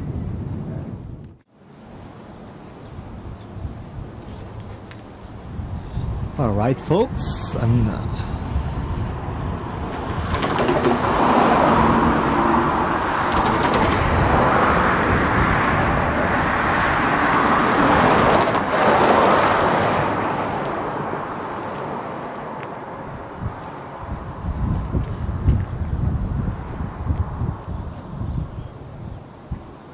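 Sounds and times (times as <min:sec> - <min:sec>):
road traffic passing: 0:01.5 - 0:29.9.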